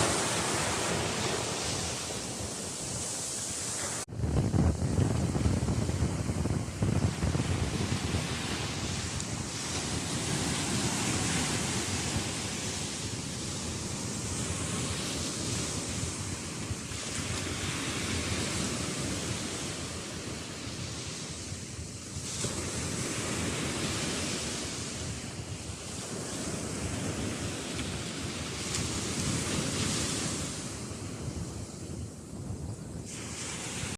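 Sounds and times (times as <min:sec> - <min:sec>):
sea waves washing in: 0:00.0 - 0:33.9
wind rumbling on microphone: 0:00.0 - 0:33.9.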